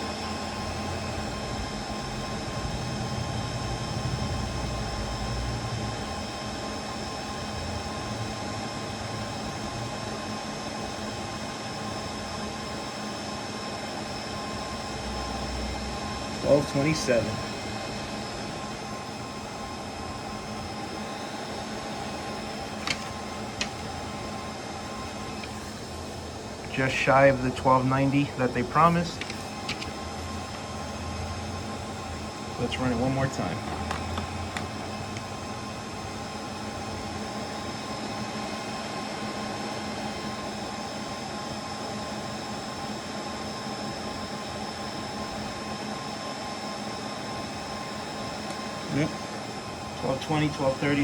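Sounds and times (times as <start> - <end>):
faint hum: 0.0 - 51.0
fan whir: 0.0 - 51.0.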